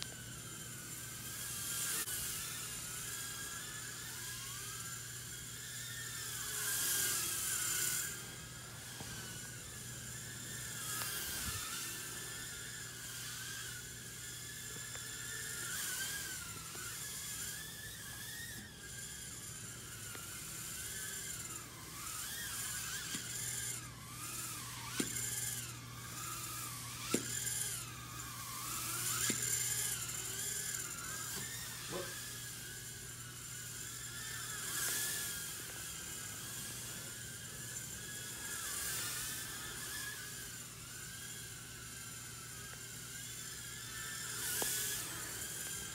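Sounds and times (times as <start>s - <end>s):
quadcopter fans whining: 0.0s - 45.9s.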